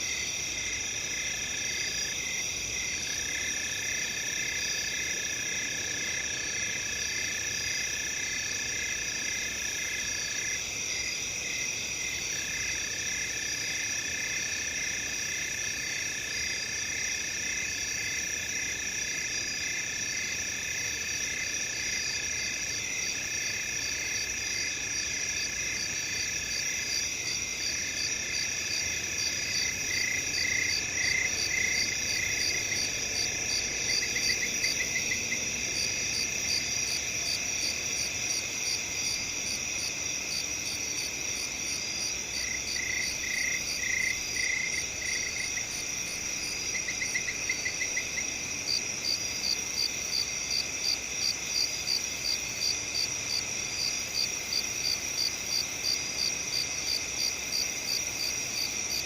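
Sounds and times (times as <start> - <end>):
crickets trilling: 0.0 - 59.0
pulsed cricket chirps: 0.0 - 59.0.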